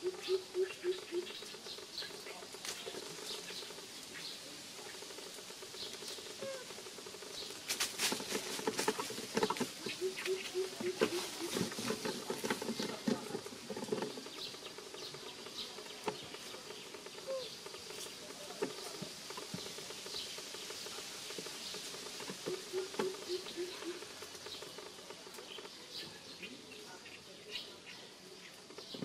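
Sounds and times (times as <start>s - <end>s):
dry leaves crackling and rustling: 0.0s - 26.5s.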